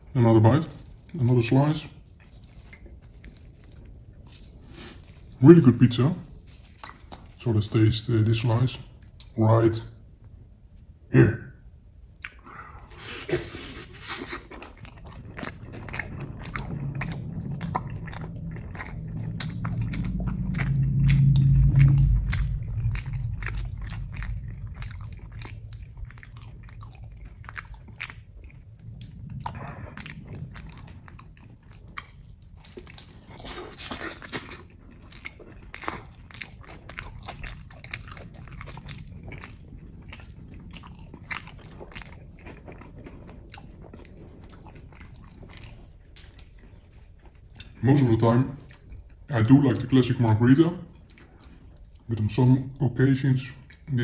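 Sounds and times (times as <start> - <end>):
close chewing mouth clicks: 0.0 - 7.7, 12.1 - 54.0
food crunching: 0.0 - 10.2, 12.0 - 54.0
low rumble: 0.0 - 54.0.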